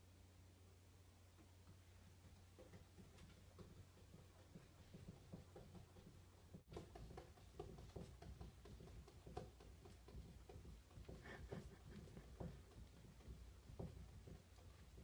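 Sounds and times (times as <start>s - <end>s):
low room hum: 0.0s - 15.0s
cat paws tapping mirror: 2.5s - 15.0s.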